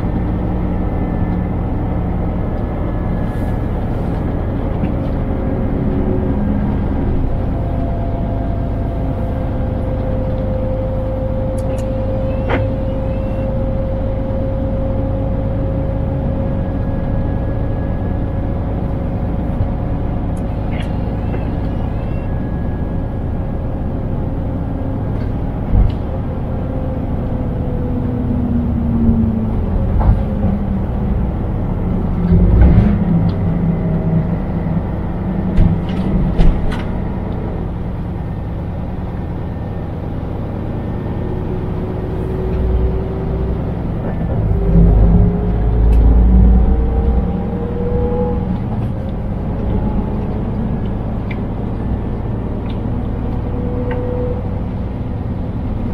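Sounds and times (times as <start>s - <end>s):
road rumble: 0.0s - 55.9s
truck engine: 0.0s - 55.9s.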